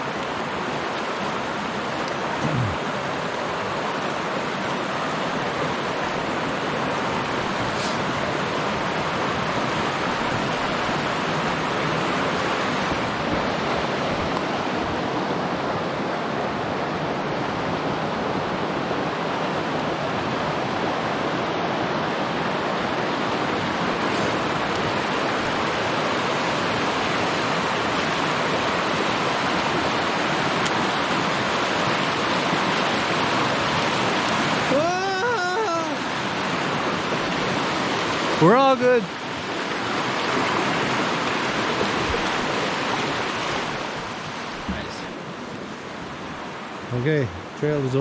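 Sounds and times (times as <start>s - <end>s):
creek rushing over rocks: 0.0s - 48.0s.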